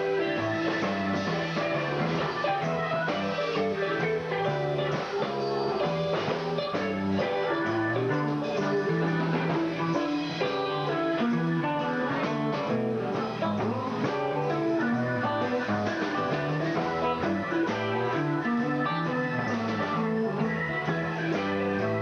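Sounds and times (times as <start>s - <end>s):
bass line: 0.0s - 22.0s
electric guitar: 0.0s - 22.0s.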